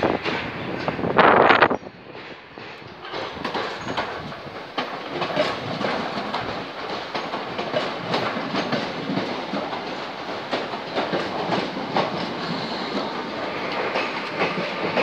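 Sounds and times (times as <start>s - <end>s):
train rolling past: 0.0s - 15.0s
wheels clicking over rail joints: 0.0s - 15.0s.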